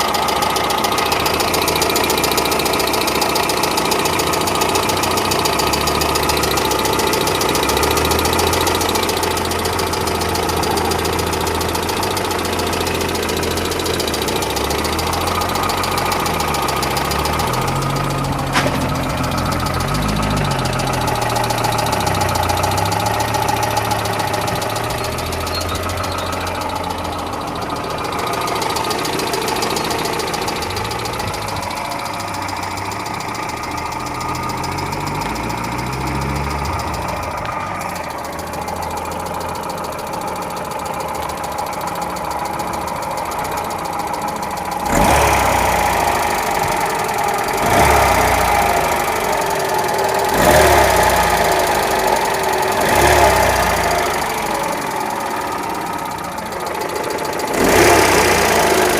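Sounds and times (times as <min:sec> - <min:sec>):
car engine running: 0:00.0 - 0:58.9
engine knocking: 0:00.0 - 0:58.9.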